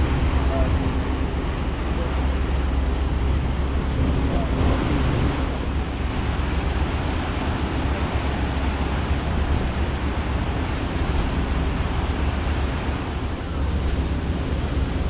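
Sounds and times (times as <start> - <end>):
ferry engine rumble: 0.0 - 15.0
water rushing: 0.0 - 15.0.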